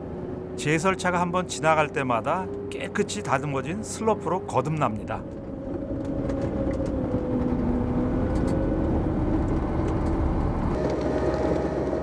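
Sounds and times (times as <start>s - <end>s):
droning whine: 0.0s - 12.0s.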